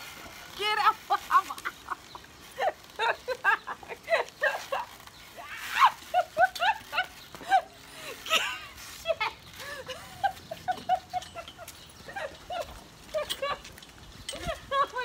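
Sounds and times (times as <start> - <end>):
woman laughing: 1.1 - 5.0, 5.6 - 15.0.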